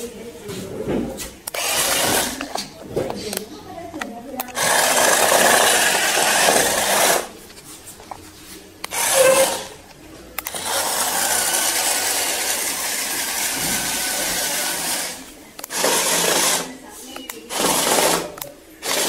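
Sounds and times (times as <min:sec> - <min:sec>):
electric motors whirring: 0:01.4 - 0:07.4, 0:08.8 - 0:19.0.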